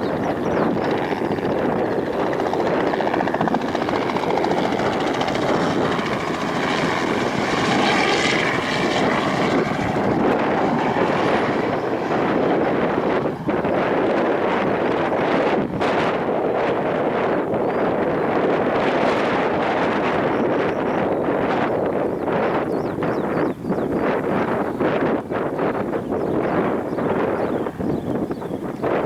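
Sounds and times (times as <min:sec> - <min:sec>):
helicopter rotor and engine: 0:00.0 - 0:29.0
wind on microphone: 0:00.0 - 0:29.0.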